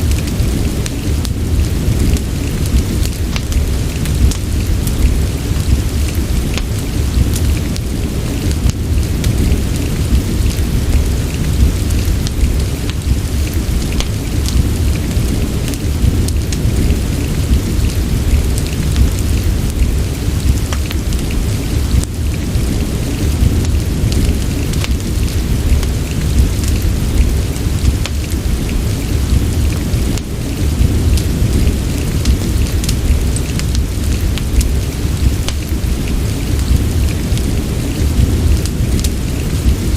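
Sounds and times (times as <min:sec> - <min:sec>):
deep low rumble: 0:00.0 - 0:39.9
steady rain: 0:00.0 - 0:39.9
wood fire crackling: 0:00.0 - 0:39.9.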